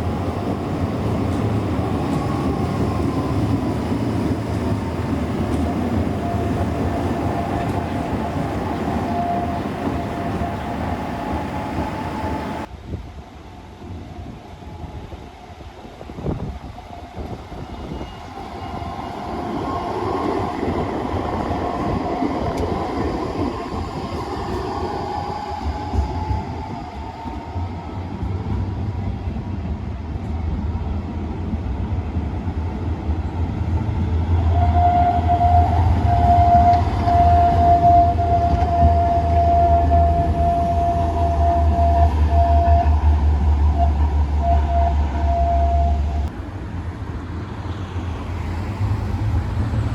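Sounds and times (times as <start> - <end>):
tram electric drive whine: 0.0 - 49.9.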